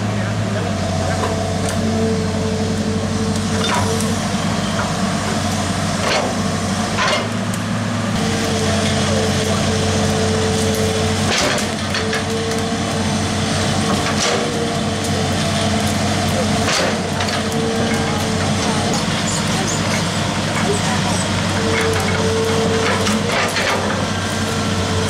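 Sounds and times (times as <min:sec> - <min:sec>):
excavator diesel engine drone: 0:00.0 - 0:25.0.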